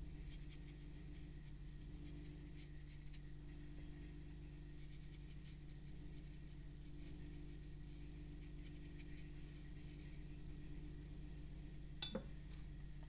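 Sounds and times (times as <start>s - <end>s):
low hum: 0.0s - 13.0s
paintbrush scratching on paper: 0.2s - 10.8s.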